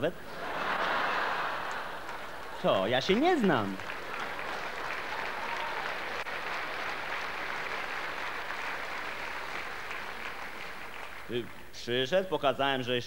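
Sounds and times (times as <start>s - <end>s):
audience applauding: 0.6s - 11.7s.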